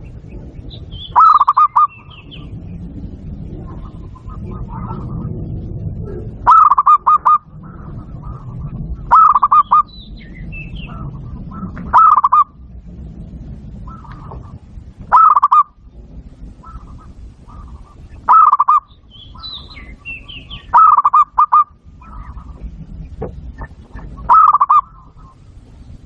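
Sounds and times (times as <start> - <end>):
low rumble: 0.0 - 26.0
dove cooing: 1.0 - 12.7, 13.7 - 15.8, 16.4 - 25.6.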